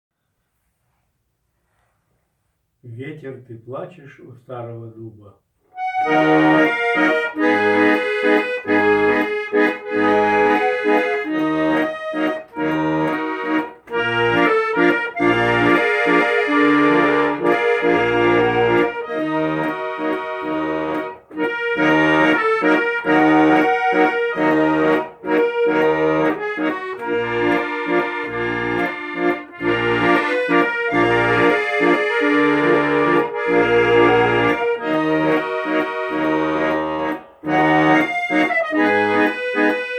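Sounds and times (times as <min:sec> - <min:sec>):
accordion playing melody: 0:05.7 - 0:39.9.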